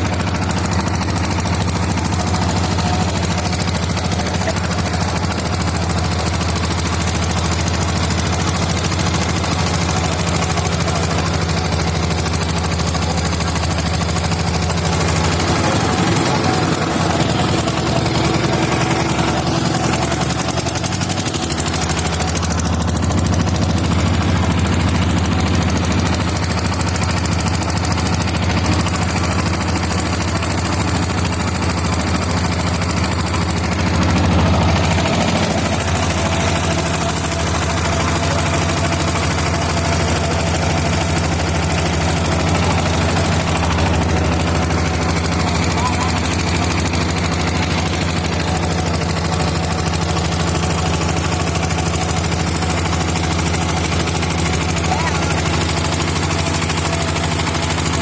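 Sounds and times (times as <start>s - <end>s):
boat engine chugging: 0.0s - 58.0s.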